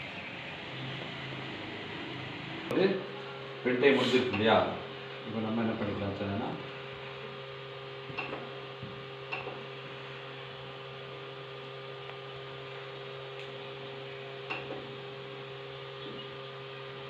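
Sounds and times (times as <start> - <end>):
printer fans humming: 0.0 - 17.0.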